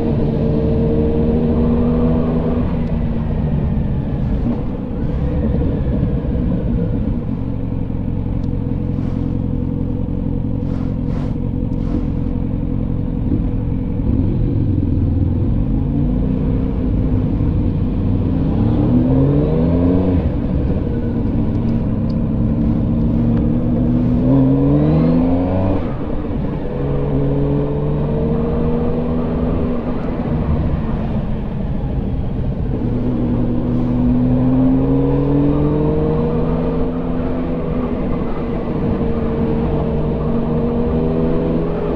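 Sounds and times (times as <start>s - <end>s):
road rumble: 0.0s - 41.9s
vehicle engine accelerating: 0.0s - 41.9s.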